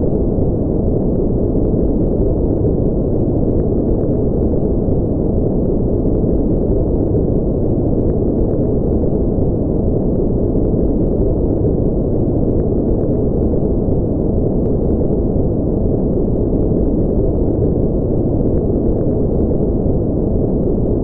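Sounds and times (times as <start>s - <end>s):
deep white noise: 0.0s - 21.0s.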